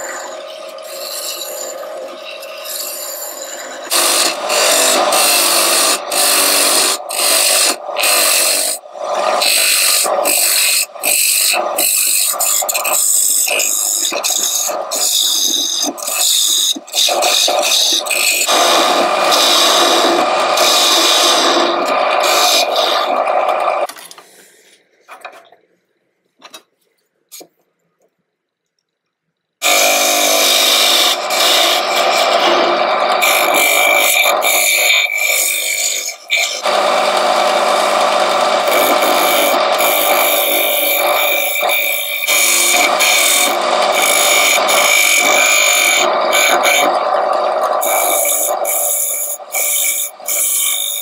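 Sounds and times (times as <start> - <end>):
lathe tool cutting wood: 0.0 - 23.9, 29.6 - 51.0.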